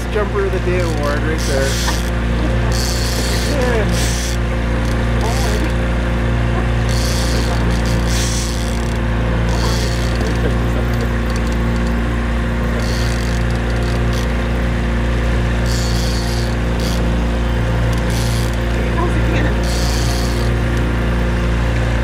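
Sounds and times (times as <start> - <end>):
boat motor droning: 0.0 - 22.0.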